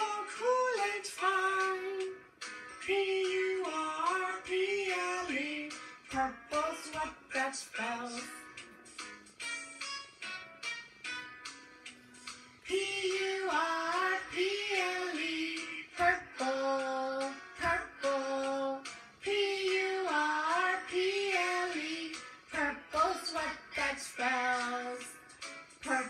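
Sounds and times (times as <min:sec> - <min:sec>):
voices singing children's song: 0:00.0 - 0:08.6, 0:12.6 - 0:26.0
instrumental backing: 0:00.0 - 0:26.0.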